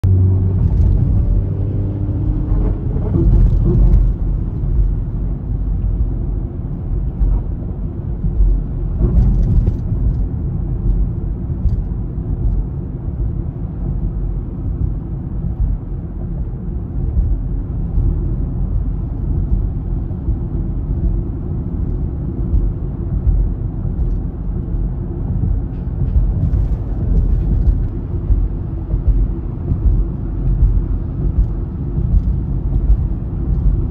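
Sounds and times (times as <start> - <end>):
car road rumble inside cabin: 0.0 - 33.9.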